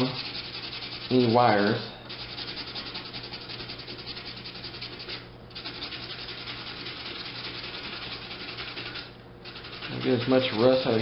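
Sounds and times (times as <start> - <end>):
sandpaper rubbing metal: 0.0 - 10.9.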